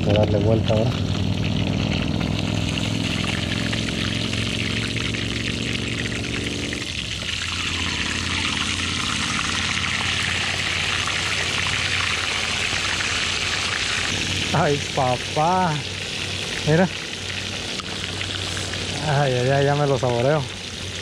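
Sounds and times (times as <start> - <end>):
low steady hum: 0.0 - 21.0
oil sizzling in frying pan: 1.0 - 21.0.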